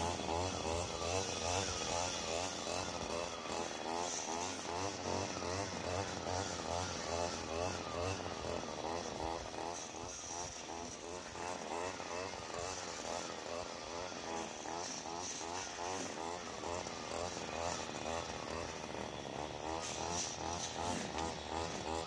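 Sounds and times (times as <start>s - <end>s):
string trimmer engine running: 0.0s - 22.0s.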